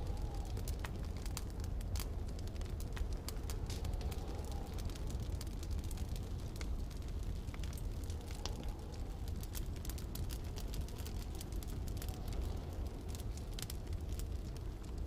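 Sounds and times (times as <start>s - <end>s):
low wind rumble: 0.0s - 15.0s
wood fire crackling: 0.0s - 15.0s.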